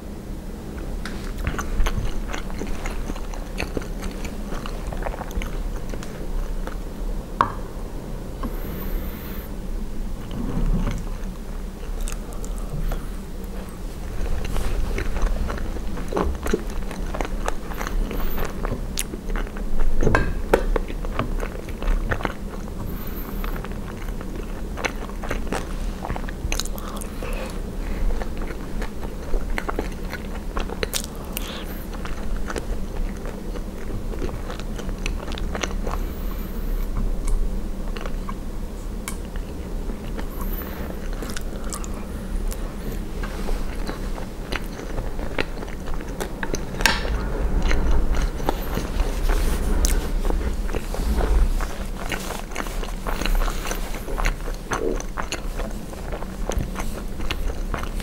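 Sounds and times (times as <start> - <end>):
chewing and crunching food: 0.7 - 7.0, 10.2 - 58.0.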